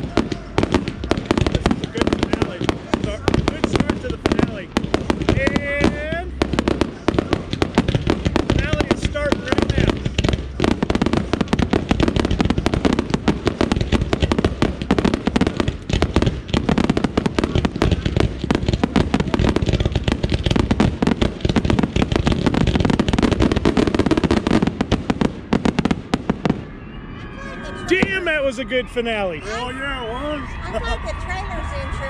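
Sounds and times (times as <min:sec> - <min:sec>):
fireworks bangs and crackles: 0:00.0 - 0:27.0, 0:27.8 - 0:32.0.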